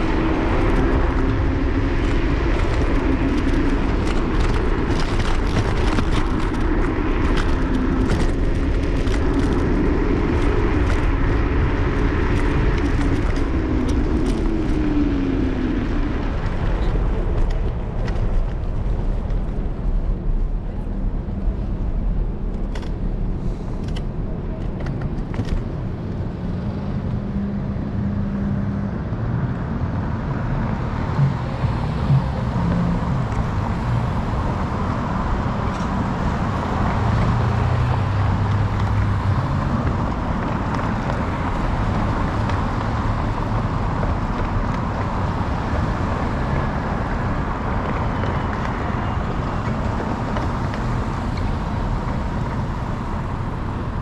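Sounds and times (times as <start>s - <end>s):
city street traffic: 0.0s - 54.0s
low road rumble: 0.0s - 54.0s.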